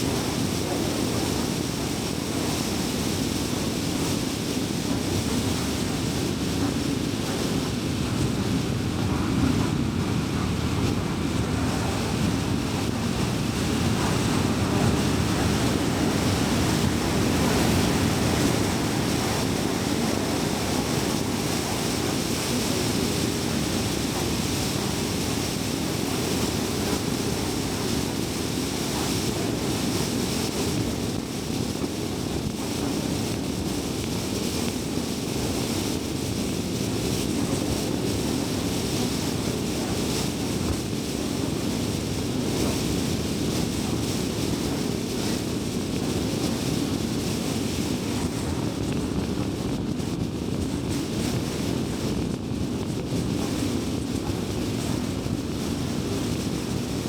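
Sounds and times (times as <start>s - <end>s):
wind hiss: 0.0s - 57.0s.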